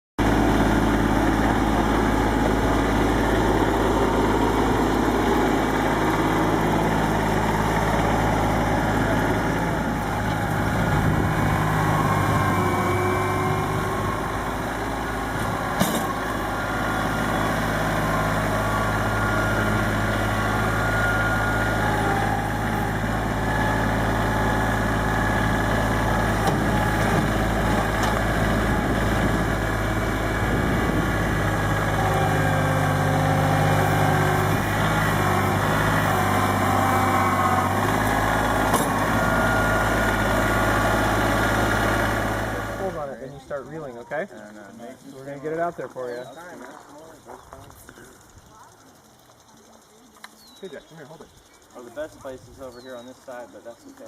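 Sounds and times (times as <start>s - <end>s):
tractor engine running: 0.2s - 54.0s.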